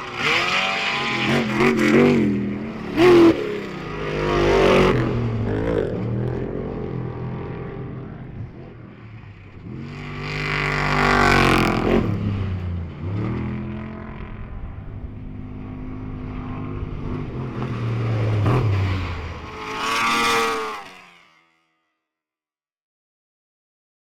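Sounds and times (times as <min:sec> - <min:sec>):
off-road engines revving hard: 0:00.0 - 0:21.3.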